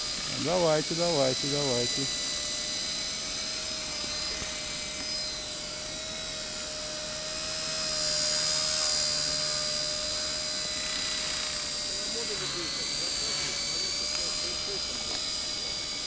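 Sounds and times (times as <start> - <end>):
model helicopter rotor whine: 0.0 - 16.0.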